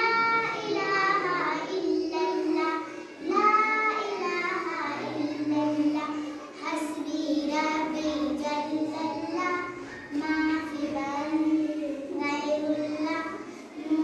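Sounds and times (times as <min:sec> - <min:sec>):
girls singing unaccompanied: 0:00.0 - 0:14.0.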